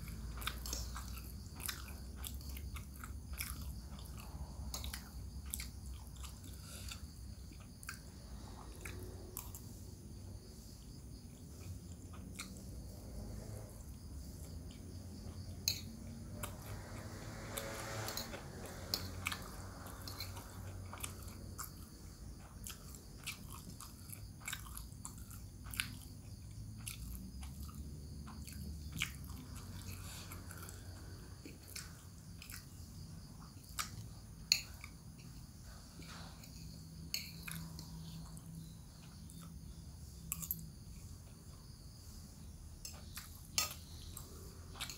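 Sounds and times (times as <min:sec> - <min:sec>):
person chewing: 0:00.0 - 0:13.6, 0:14.3 - 0:17.0, 0:17.6 - 0:41.1, 0:42.8 - 0:44.9.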